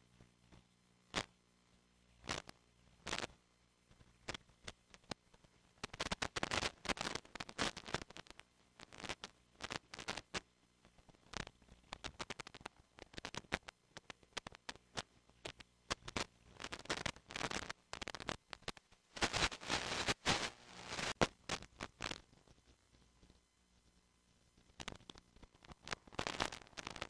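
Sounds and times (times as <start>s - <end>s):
radio static crackling and hiss: 0.0s - 27.0s.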